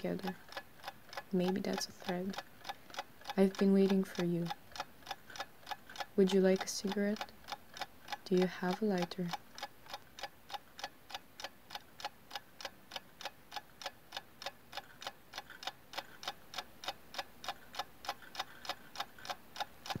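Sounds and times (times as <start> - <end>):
clock-like ticking: 0.0 - 20.0.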